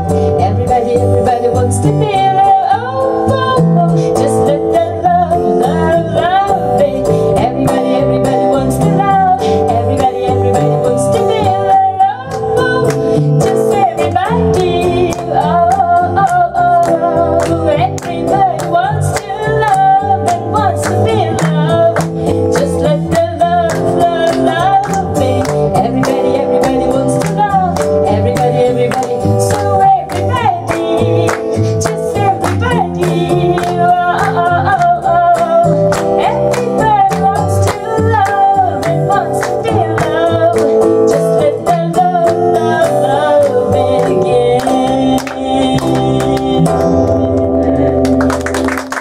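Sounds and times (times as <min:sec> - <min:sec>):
woman singing: 0:00.0 - 0:48.1
electric bass line: 0:00.0 - 0:49.0
strummed acoustic guitar: 0:00.0 - 0:49.0.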